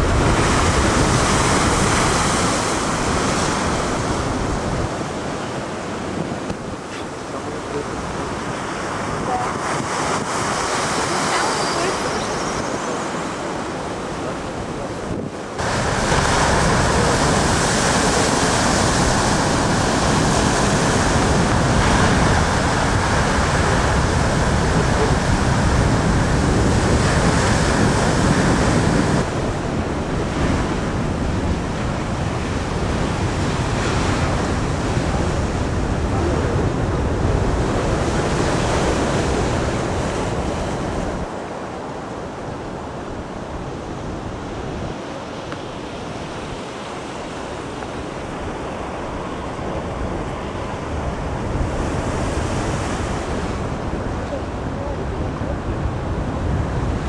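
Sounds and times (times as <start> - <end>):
storm waves crashing: 0.0 - 57.0
wind buffeting microphone: 0.0 - 57.0.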